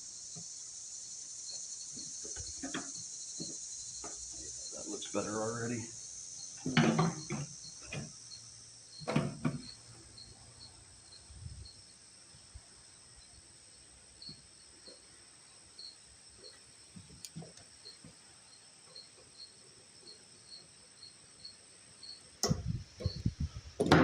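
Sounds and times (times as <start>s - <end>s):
crickets chirping: 0.0s - 24.0s
high insect hiss: 0.0s - 24.0s.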